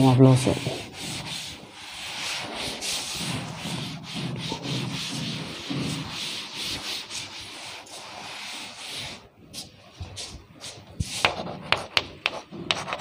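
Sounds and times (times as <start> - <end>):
duster rubbing on blackboard: 0.0 - 13.0.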